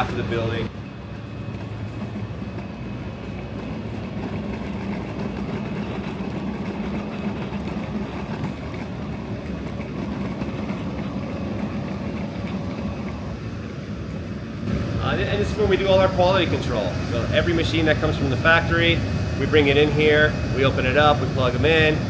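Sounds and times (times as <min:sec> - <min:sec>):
warehouse rumble and hum: 0:00.0 - 0:22.0.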